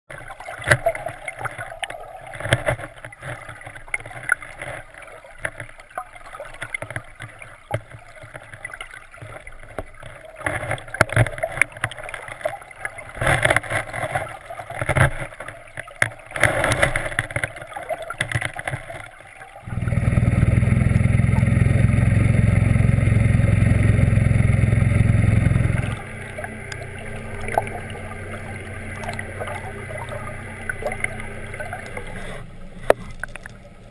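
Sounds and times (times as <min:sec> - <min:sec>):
boat motor droning underwater: 0:00.1 - 0:33.9
water sloshing: 0:00.1 - 0:33.9.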